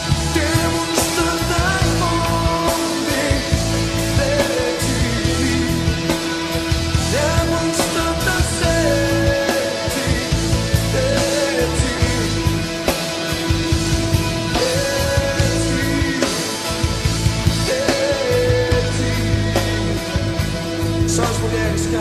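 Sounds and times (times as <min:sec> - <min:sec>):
bass and electric guitar: 0:00.0 - 0:22.0
drums steady beat: 0:00.0 - 0:22.0
gliding melodic lead line: 0:00.0 - 0:22.0.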